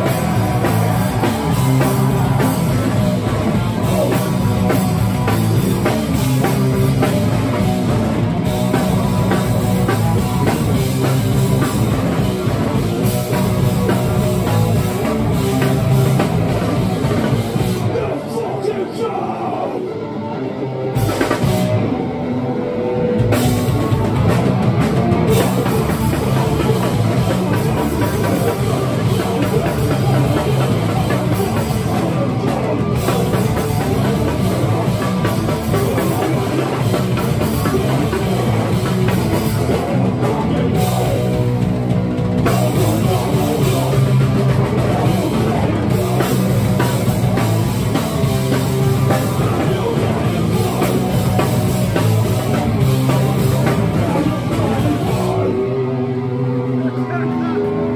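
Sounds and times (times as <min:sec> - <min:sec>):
punk band playing live: 0:00.0 - 0:57.9.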